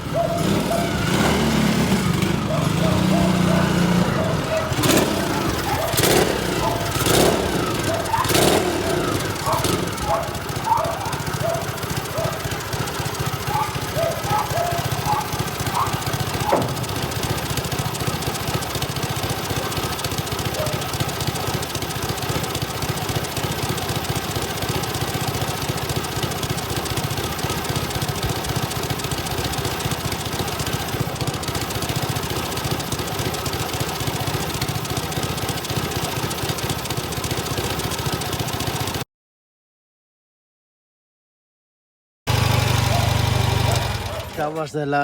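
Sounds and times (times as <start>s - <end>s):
motorcycle engine running: 0.0s - 39.0s, 42.3s - 45.0s.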